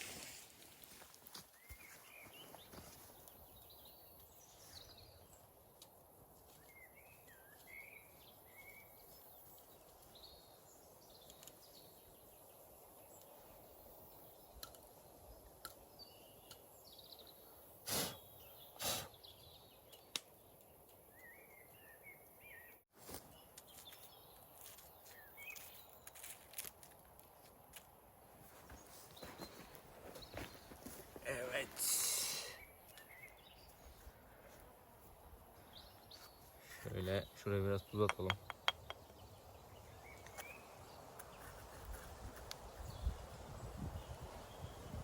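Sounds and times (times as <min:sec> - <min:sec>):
small birds chirping: 0:00.2 - 0:26.4, 0:28.2 - 0:45.0.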